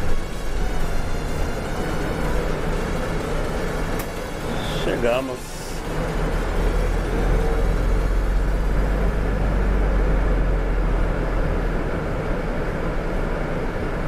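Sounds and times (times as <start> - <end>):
bus engine low rumble: 0.0 - 14.0.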